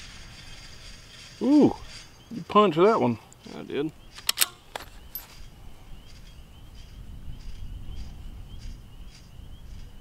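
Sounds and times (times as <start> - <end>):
bird chirping faintly: 0.0 - 10.0.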